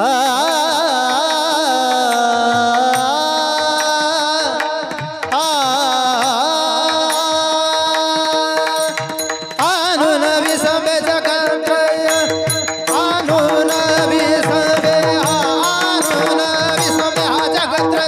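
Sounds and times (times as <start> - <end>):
man singing ornamented melody: 0.0 - 18.0.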